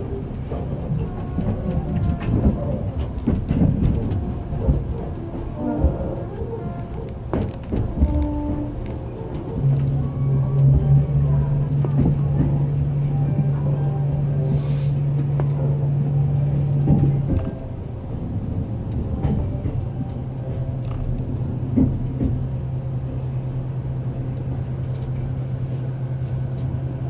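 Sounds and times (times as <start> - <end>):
electric train hum: 0.0 - 27.0
train wheels rumbling: 0.0 - 27.0.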